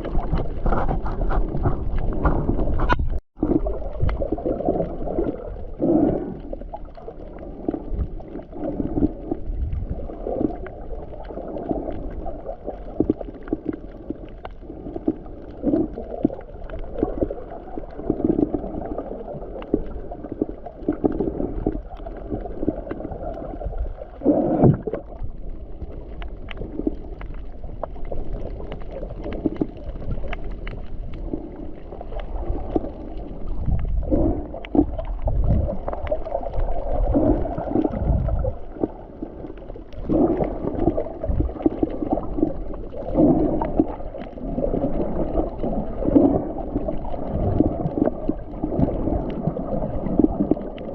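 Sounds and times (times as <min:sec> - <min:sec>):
muffled water sloshing and gurgling: 0:00.0 - 0:50.9.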